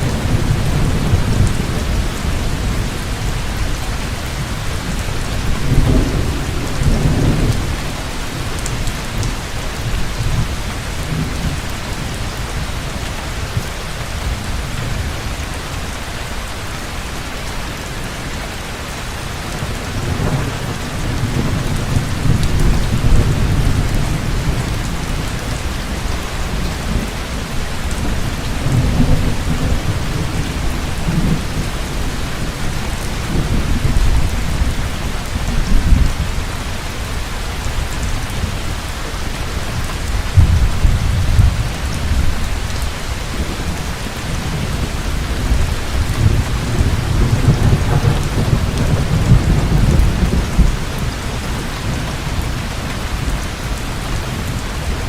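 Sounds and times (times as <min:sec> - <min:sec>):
low rolling thunder: 0:00.0 - 0:12.9, 0:19.5 - 0:36.5, 0:39.7 - 0:55.0
heavy rain: 0:00.0 - 0:55.0.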